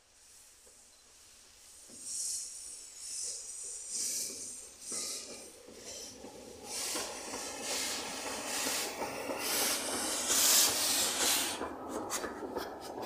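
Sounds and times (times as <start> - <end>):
steam locomotive chuffing: 1.6 - 13.0.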